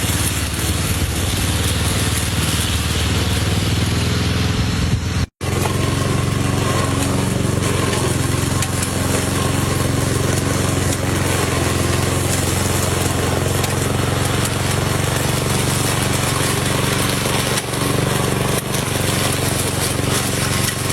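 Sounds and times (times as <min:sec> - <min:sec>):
lawn mower engine running: 0:00.0 - 0:20.9.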